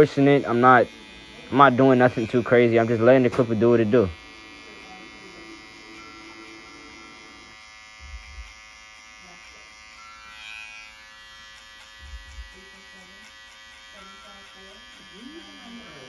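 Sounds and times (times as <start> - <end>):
hair clipper running: 0.0 - 16.0.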